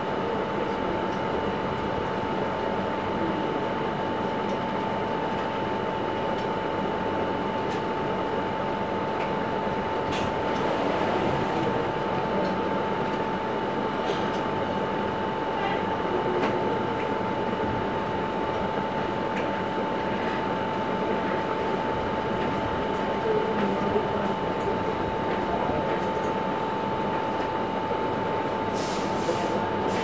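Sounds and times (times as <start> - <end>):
fan whirring: 0.0 - 29.9.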